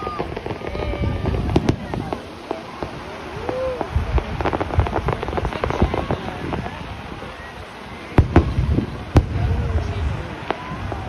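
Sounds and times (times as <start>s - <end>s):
fireworks crackling: 0.0s - 11.0s
fireworks dull low booms: 0.0s - 11.0s.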